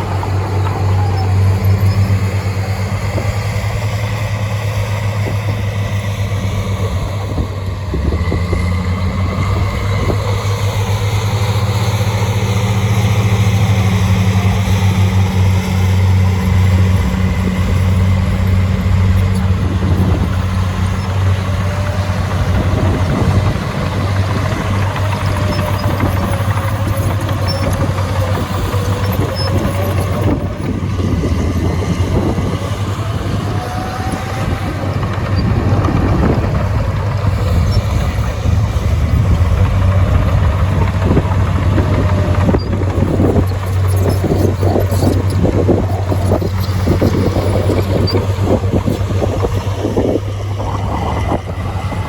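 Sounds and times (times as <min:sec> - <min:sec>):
heavy diesel engine humming: 0:00.0 - 0:52.0.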